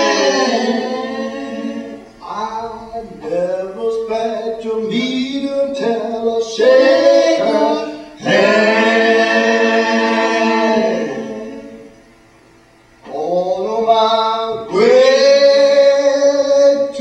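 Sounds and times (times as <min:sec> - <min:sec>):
voices singing in harmony: 0:00.0 - 0:12.1, 0:13.0 - 0:17.0.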